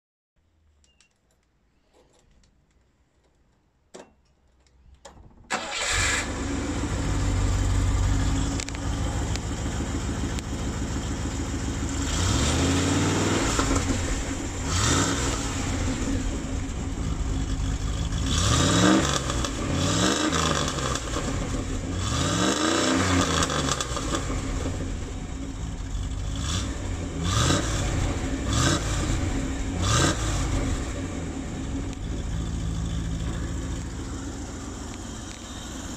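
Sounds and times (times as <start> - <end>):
car engine starting: 5.0 - 35.9
car engine idling and revving: 5.2 - 35.9.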